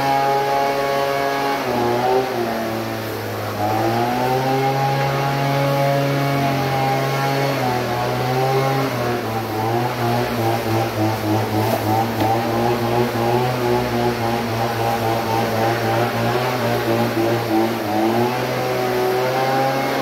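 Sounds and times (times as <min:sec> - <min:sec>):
leaf blower engine running: 0:00.0 - 0:20.0.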